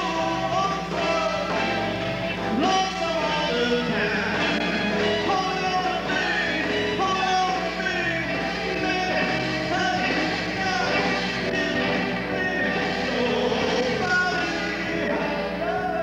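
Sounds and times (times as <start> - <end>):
man singing into microphone: 0.0 - 1.7, 2.5 - 16.0
live band playing: 0.0 - 16.0.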